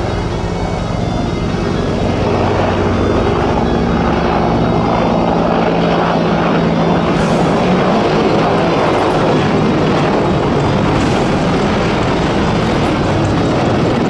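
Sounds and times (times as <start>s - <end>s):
helicopter rotors and engines: 0.0s - 14.0s.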